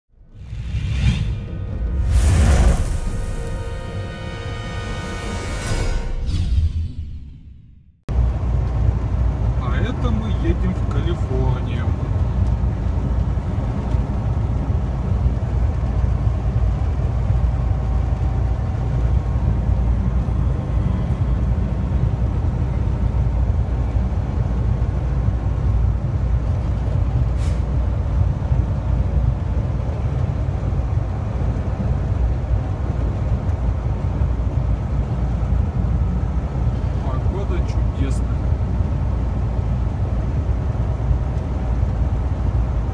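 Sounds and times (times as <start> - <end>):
truck engine and road noise: 0.1 - 42.9.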